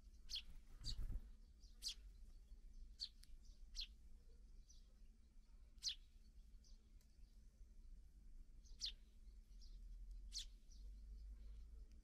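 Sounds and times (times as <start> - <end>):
sparrows chirping: 0.0 - 7.6, 8.6 - 12.0.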